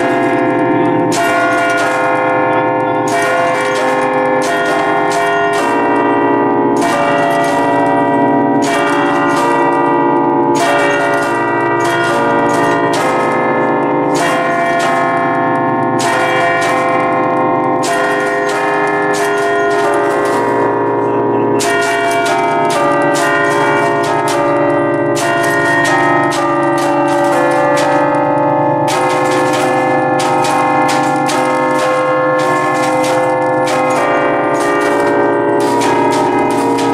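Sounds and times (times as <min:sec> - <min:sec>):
church bells ringing a melody: 0:00.0 - 0:36.9.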